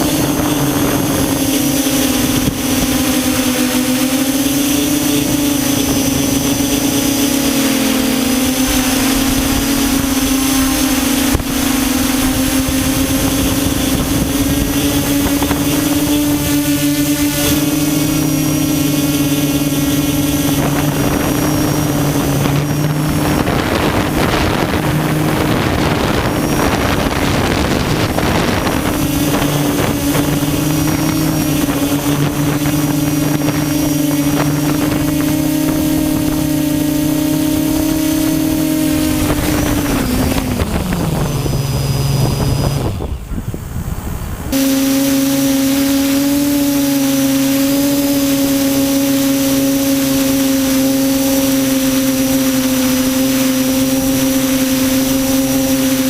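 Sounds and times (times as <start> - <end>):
quadcopter motors humming: 0.0 - 56.0
wind noise rush: 0.0 - 56.0.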